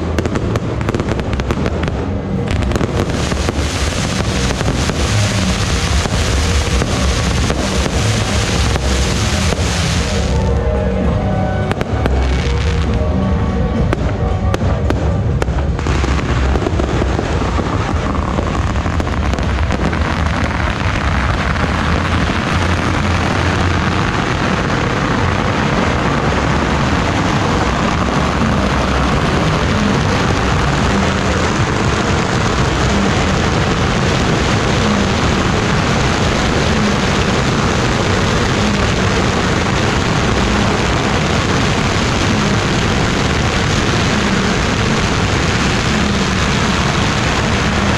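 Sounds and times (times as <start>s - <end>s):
firecrackers crackling rapidly: 0.0s - 10.9s, 11.5s - 47.9s.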